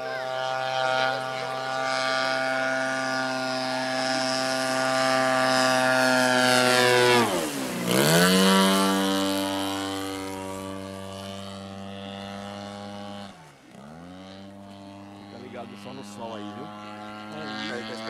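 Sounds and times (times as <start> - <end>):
model plane engine and propeller: 0.0 - 18.0.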